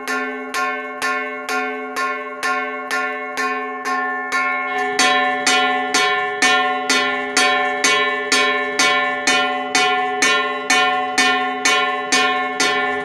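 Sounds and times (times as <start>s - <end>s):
hammer striking metal disc bell: 0.0s - 13.0s.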